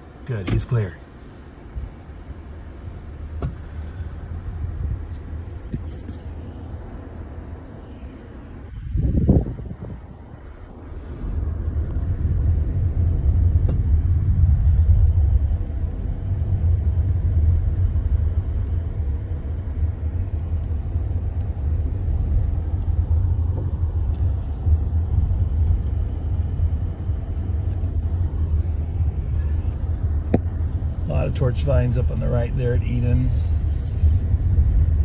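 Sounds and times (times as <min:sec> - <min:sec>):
vehicle engine and road rumble: 0:00.0 - 0:35.0.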